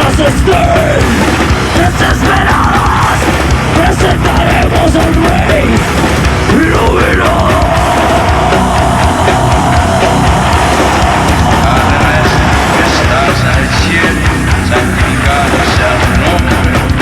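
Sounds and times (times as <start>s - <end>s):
heavy metal band playing live: 0.0s - 17.0s.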